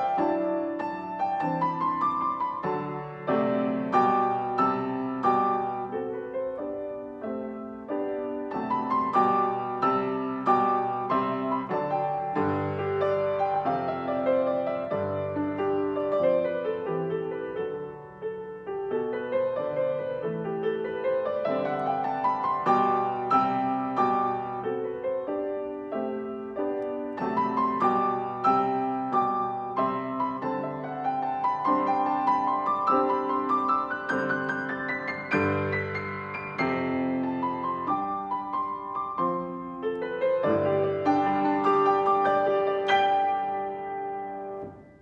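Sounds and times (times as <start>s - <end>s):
solo piano carol: 0.0s - 45.0s.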